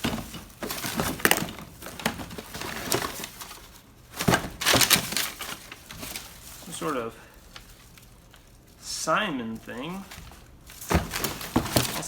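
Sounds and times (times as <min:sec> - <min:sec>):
objects clattering in a box: 0:00.0 - 0:08.7, 0:09.5 - 0:12.0.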